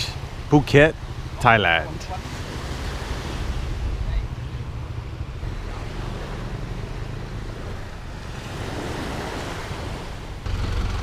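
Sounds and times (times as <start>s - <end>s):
small waves breaking on shore: 0.0s - 11.0s.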